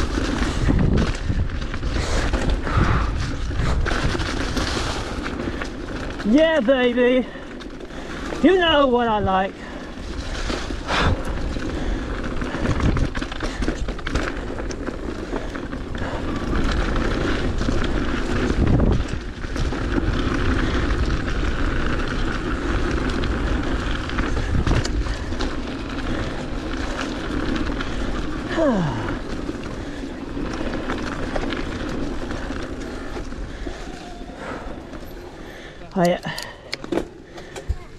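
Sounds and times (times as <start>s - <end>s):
bike rattling over bumps: 0.0s - 37.9s
bike tyres on gravel trail: 0.0s - 37.9s.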